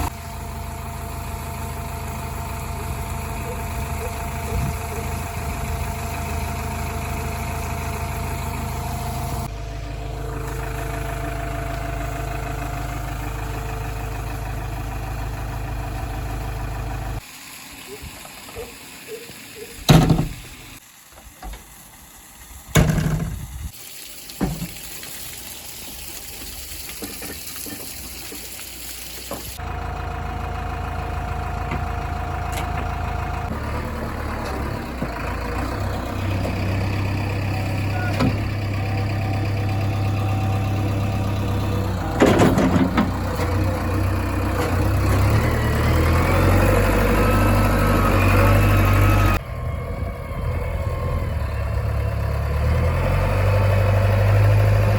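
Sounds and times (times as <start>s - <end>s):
diesel engine working: 0.0s - 23.7s, 28.6s - 54.9s.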